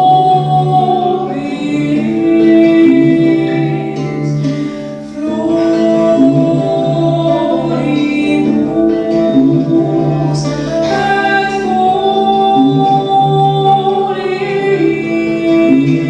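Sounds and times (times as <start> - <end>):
folk instrumental accompaniment: 0.0 - 16.0
person singing long notes: 0.0 - 16.0.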